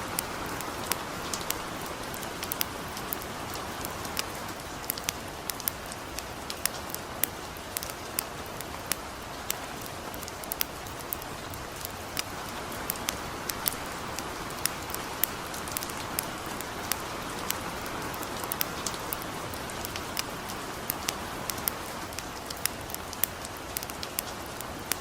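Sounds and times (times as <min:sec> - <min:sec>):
campfire crackling and popping: 0:00.0 - 0:25.0
light rain hissing: 0:00.0 - 0:25.0.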